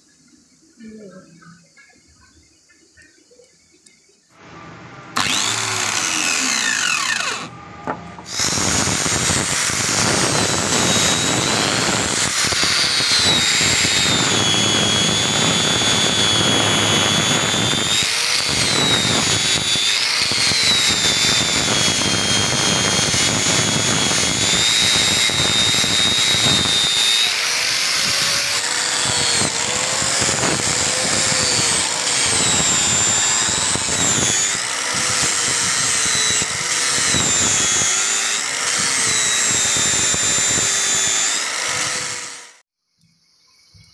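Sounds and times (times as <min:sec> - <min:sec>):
angle grinder polishing steel: 0:05.2 - 0:07.6, 0:08.3 - 0:42.6.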